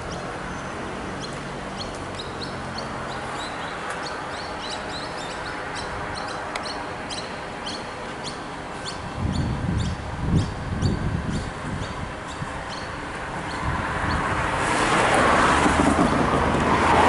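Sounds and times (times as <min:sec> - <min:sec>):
small birds chirping: 0:00.0 - 0:14.4
background traffic noise: 0:00.0 - 0:17.0.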